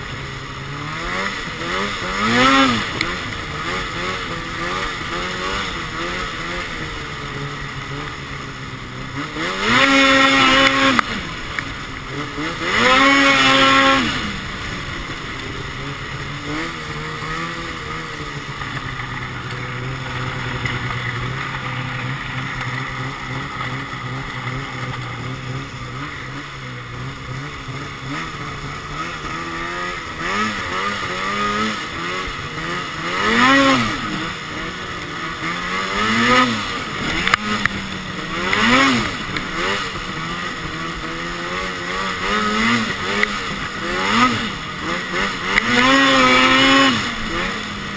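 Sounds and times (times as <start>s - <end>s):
snowmobile engine revving: 0.0s - 47.9s.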